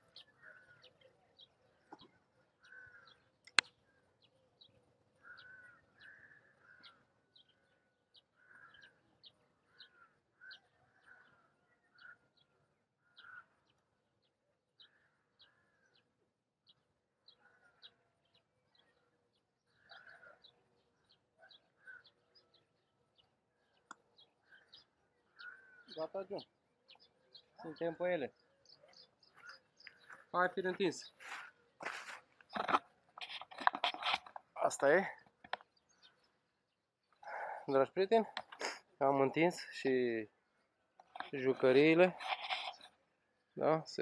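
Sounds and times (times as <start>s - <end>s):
lower bird calls: 0.0s - 14.0s, 14.8s - 39.9s.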